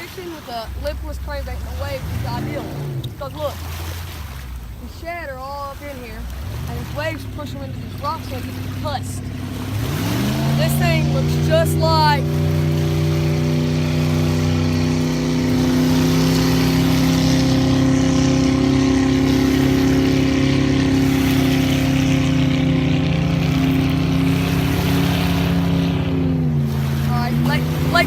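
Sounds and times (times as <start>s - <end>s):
hiss of wind and water: 0.0s - 28.0s
motorboat engine running: 0.0s - 28.0s.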